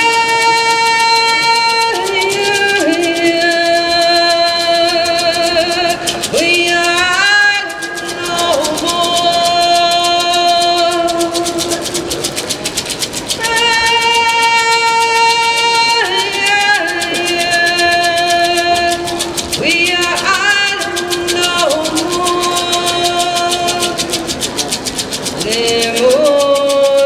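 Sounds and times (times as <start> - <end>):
woman singing into a microphone: 0.0 - 12.4, 13.0 - 27.0
hand drum beat: 0.0 - 27.0.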